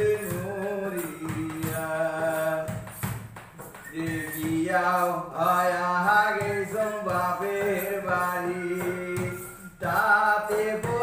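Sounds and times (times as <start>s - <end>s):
man singing folk song: 0.0s - 11.0s.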